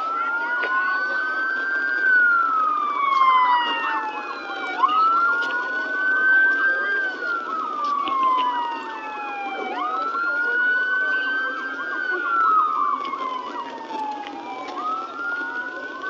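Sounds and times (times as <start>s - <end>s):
emergency vehicle siren wailing: 0.0s - 16.0s
other siren tones: 0.0s - 16.0s.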